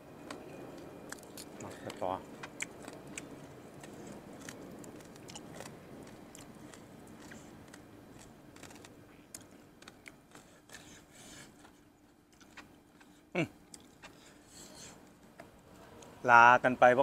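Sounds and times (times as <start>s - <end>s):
person chewing: 1.1s - 15.1s.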